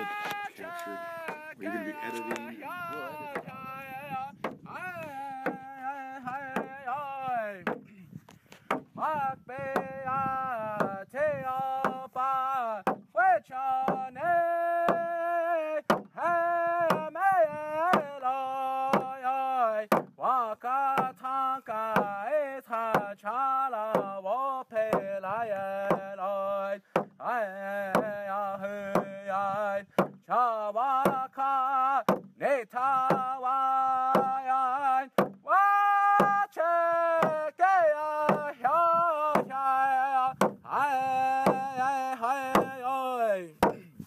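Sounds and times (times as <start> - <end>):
man singing chant-like melody: 0.0 - 44.0.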